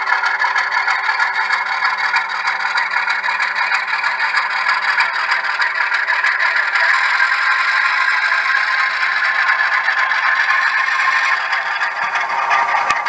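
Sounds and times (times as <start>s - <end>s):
model train wheels clattering: 0.0s - 13.0s.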